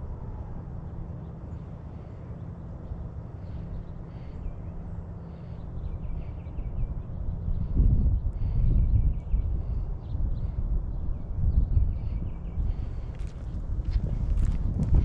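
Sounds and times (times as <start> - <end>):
low rumble: 2.8 - 15.0.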